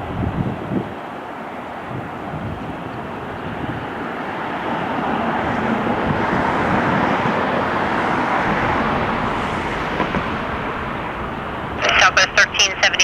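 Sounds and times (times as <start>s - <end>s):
jet airliner engines passing: 0.0s - 13.0s.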